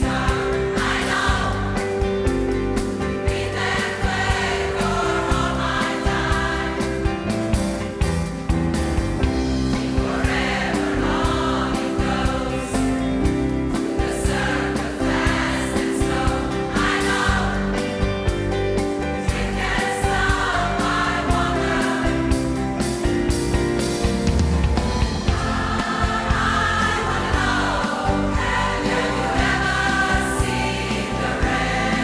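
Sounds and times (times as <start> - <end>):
choir singing in harmony: 0.0 - 8.2, 9.2 - 32.0
bass line: 0.0 - 32.0
drumbeat: 0.0 - 32.0.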